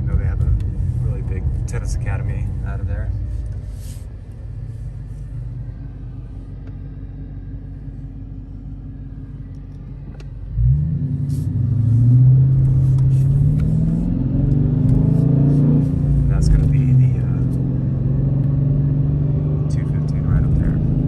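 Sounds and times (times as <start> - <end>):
car engine: 0.0 - 21.0.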